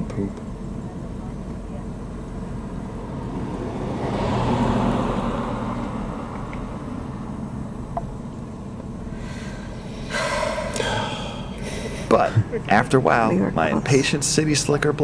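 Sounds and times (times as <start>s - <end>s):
traffic engine rumble: 0.0s - 15.0s.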